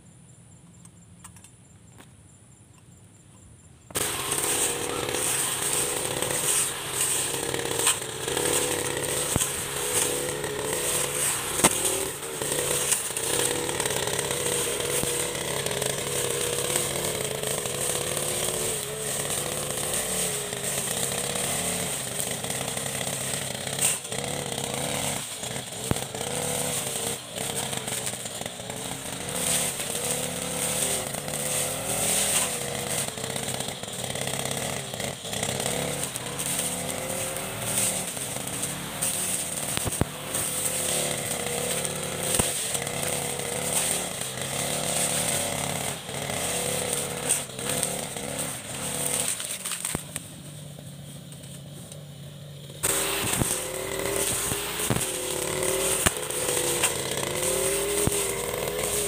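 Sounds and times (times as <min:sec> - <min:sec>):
brush cutter engine at high speed: 0:03.9 - 0:59.0.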